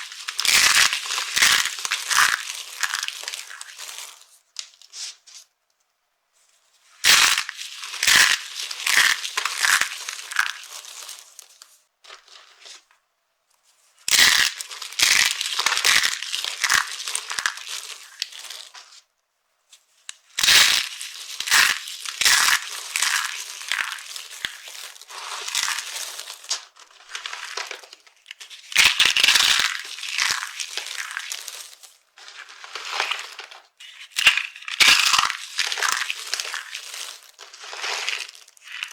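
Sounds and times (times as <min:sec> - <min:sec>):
dry soap crackling and crunching: 0:00.0 - 0:05.2, 0:07.0 - 0:12.9, 0:14.1 - 0:19.1, 0:20.0 - 0:38.9.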